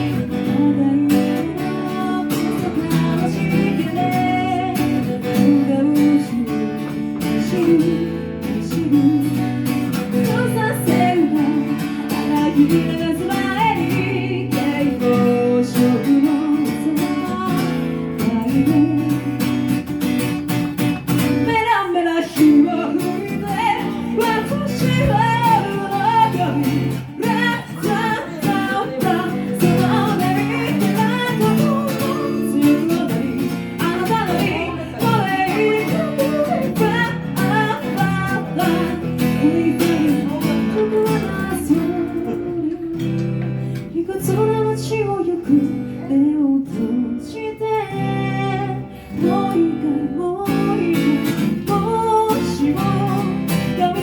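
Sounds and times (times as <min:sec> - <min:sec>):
person singing: 0:00.0 - 0:19.6, 0:21.5 - 0:54.0
strummed acoustic guitar: 0:00.0 - 0:54.0.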